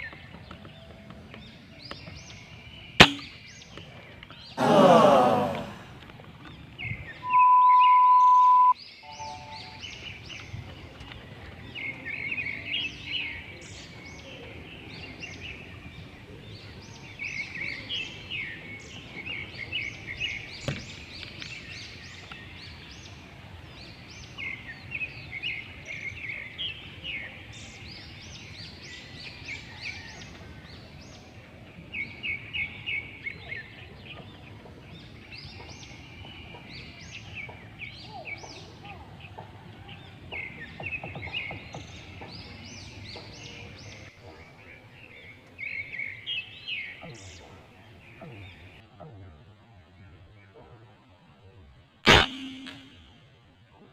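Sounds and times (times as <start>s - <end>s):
birds chirping rapidly: 0.0s - 49.0s.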